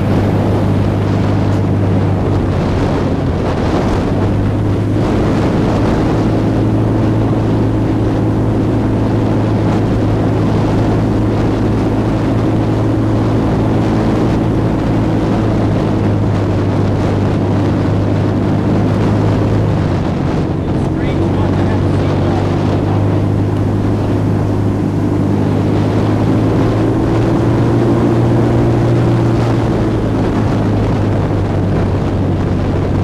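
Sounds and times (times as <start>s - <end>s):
airboat engine and propeller drone: 0.0s - 33.0s.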